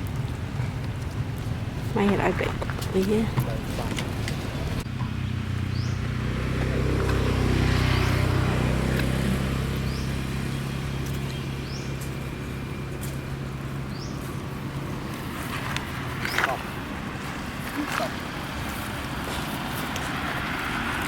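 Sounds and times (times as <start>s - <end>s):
engine humming passing by: 0.0s - 21.0s.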